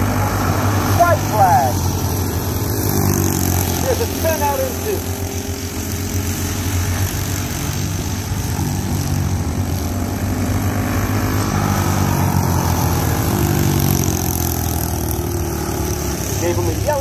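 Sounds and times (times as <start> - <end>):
go-kart engines buzzing: 0.0 - 17.0.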